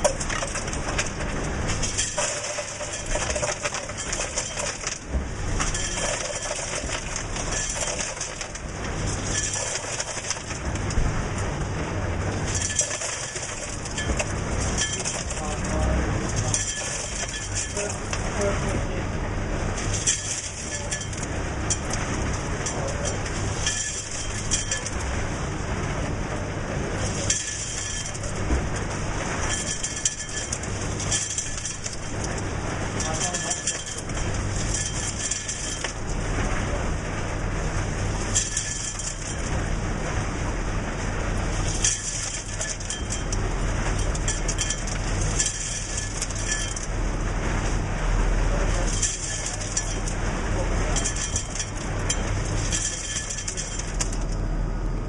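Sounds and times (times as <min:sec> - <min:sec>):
rattle of falling ice: 0:00.0 - 0:11.7, 0:12.3 - 0:19.0, 0:19.6 - 0:25.6, 0:26.8 - 0:54.4
motor hum: 0:00.0 - 0:55.0.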